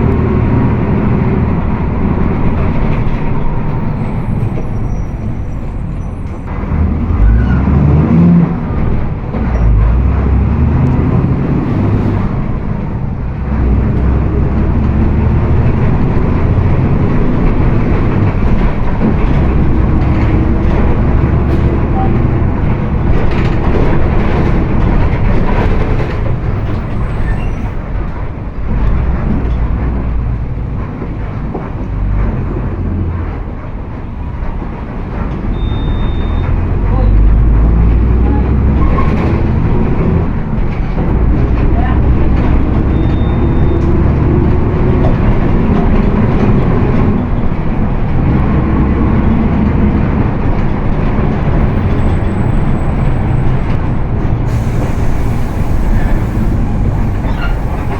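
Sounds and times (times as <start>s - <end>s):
bus drivetrain rumble: 0.0s - 57.9s.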